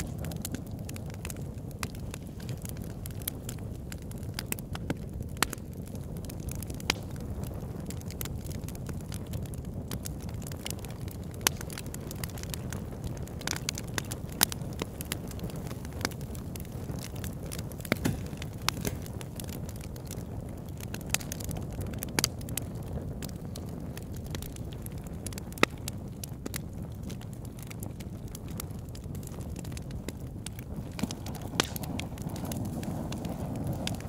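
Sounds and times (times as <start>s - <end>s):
fire crackling and popping: 0.0s - 34.0s
rush of flame: 0.0s - 34.0s.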